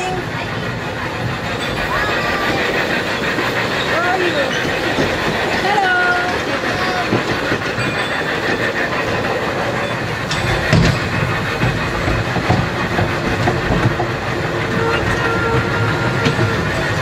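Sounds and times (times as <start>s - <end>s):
train cars rattling: 0.0s - 17.0s
wheels clicking over rail joints: 0.0s - 17.0s.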